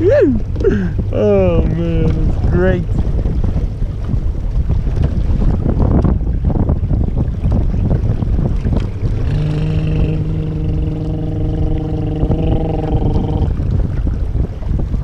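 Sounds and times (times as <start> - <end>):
water splashing against boat: 0.0 - 15.0
wind buffeting microphone: 0.0 - 15.0.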